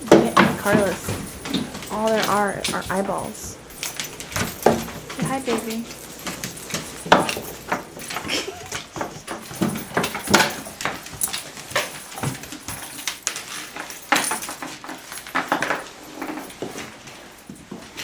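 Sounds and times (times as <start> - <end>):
clicks and rustles: 0.0 - 18.0.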